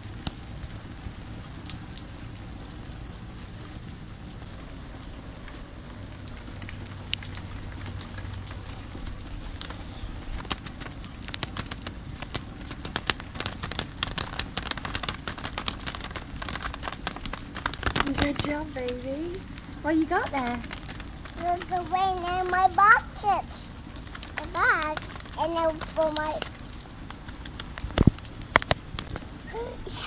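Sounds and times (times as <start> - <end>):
raindrops tapping: 0.0 - 30.0
steady rain: 0.0 - 30.0.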